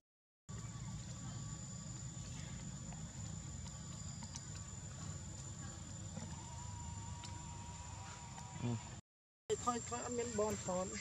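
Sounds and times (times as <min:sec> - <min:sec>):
high insect drone: 0:00.5 - 0:11.0.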